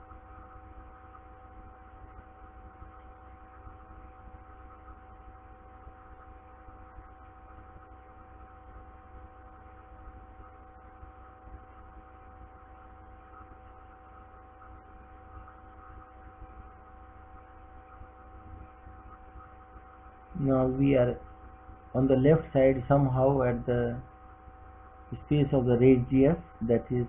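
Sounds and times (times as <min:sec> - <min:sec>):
faint whining tones: 0:00.0 - 0:27.0
low background hum: 0:00.0 - 0:27.0.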